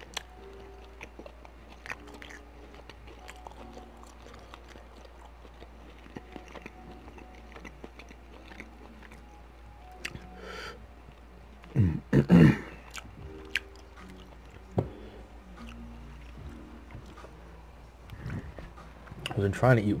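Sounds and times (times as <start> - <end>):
person chewing noodles: 0.0 - 17.3.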